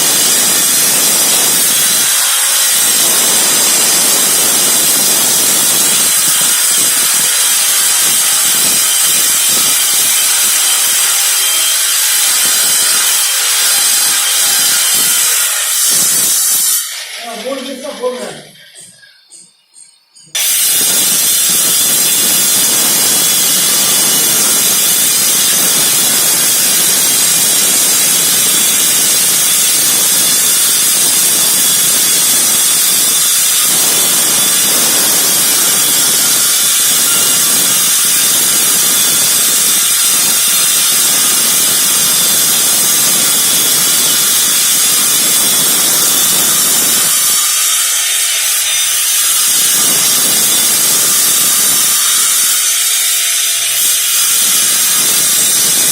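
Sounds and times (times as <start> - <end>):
power cutter grinding concrete: 0.0 - 19.0, 20.3 - 55.9.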